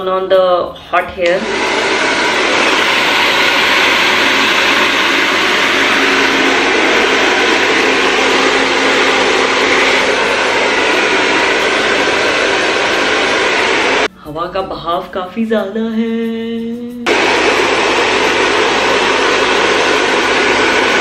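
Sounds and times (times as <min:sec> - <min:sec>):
hair dryer air rushing: 0:01.2 - 0:14.1, 0:17.1 - 0:21.0.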